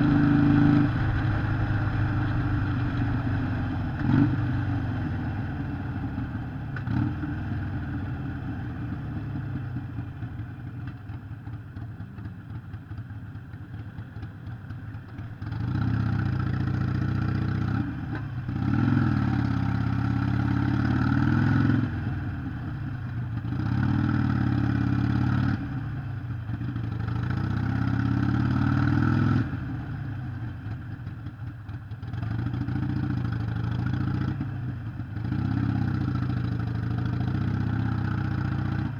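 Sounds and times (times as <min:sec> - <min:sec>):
motorcycle engine revving: 0:00.0 - 0:09.8, 0:15.4 - 0:30.2, 0:32.0 - 0:38.9.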